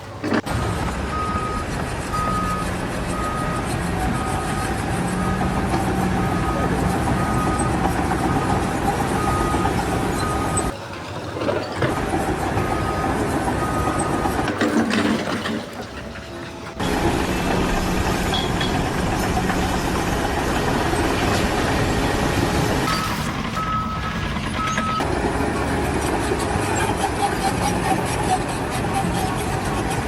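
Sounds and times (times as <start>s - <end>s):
heavy vehicle engine running: 0.0s - 30.0s.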